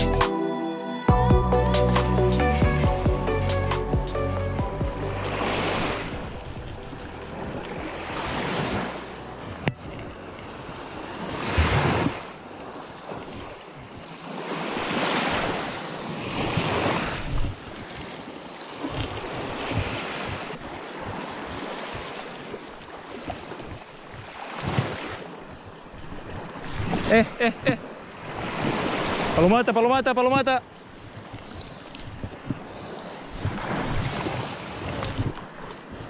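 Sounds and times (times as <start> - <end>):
small waves washing ashore: 4.8 - 36.0.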